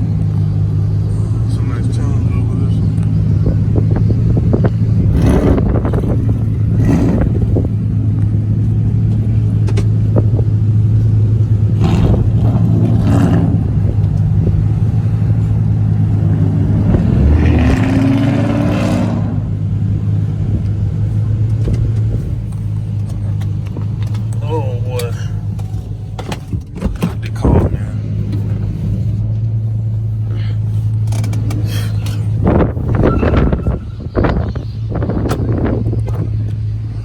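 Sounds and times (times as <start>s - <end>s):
car engines droning: 0.0s - 37.0s.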